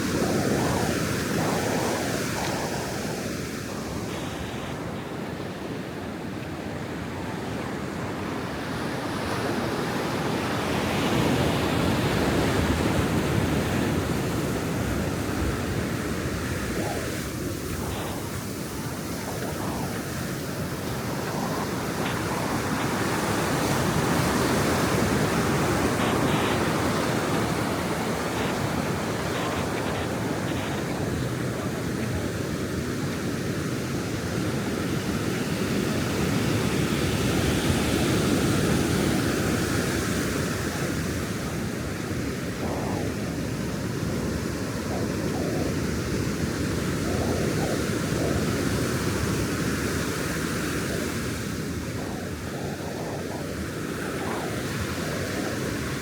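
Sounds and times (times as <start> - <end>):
ocean surf breaking on beach: 0.0 - 56.0.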